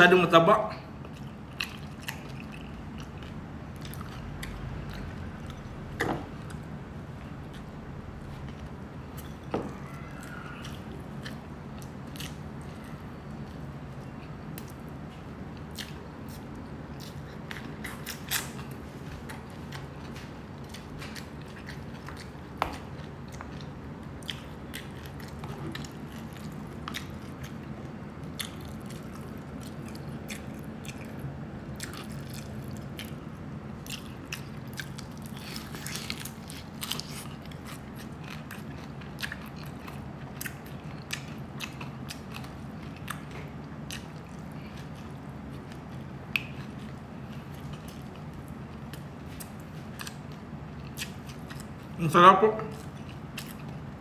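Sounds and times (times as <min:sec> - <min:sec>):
low steady hum: 0:00.0 - 0:54.0
crunchy chewing and biting: 0:01.0 - 0:52.0, 0:52.7 - 0:54.0.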